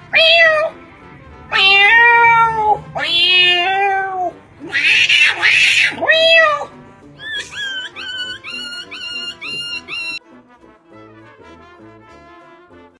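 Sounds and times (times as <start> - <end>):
short high notes: 0.0 - 11.9.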